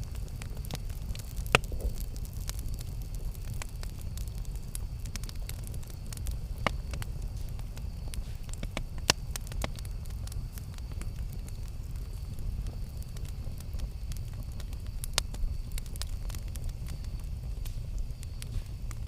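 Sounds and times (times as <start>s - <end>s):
campfire rumble: 0.0s - 19.0s
fire crackles and pops: 0.0s - 19.0s.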